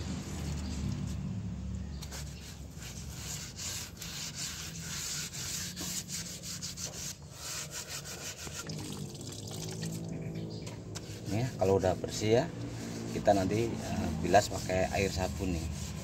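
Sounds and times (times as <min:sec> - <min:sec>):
brush scrubbing metal rim: 0:02.0 - 0:10.2, 0:10.9 - 0:16.0.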